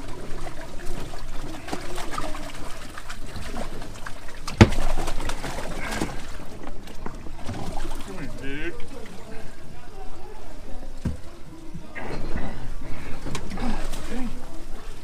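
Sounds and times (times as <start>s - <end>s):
water splashing and dripping: 0.0s - 15.0s.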